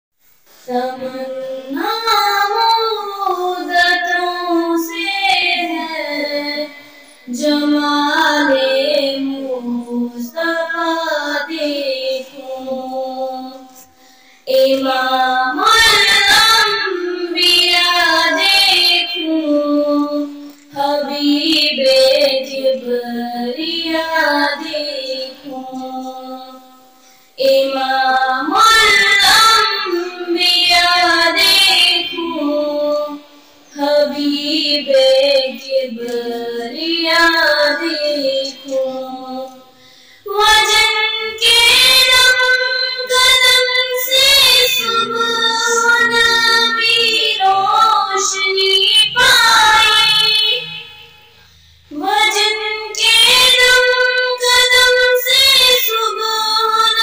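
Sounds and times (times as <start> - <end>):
girl singing unaccompanied: 0.5 - 51.1, 51.9 - 57.0.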